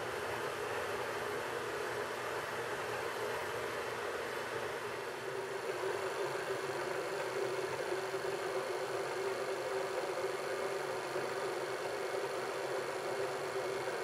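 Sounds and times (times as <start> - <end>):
milling machine hum: 0.0 - 14.0.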